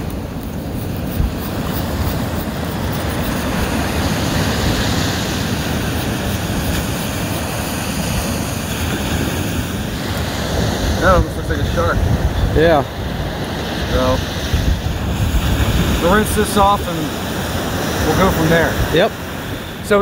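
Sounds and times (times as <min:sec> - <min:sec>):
ocean surf washing on beach: 0:00.0 - 0:20.0
wind rumbling on microphone: 0:00.0 - 0:20.0.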